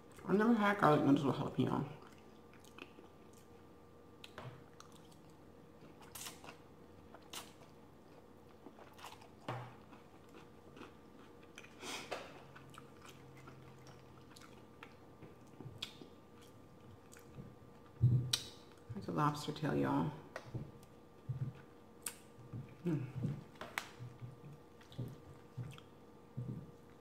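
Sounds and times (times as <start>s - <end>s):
person chewing food: 2.0s - 18.9s, 20.4s - 27.0s.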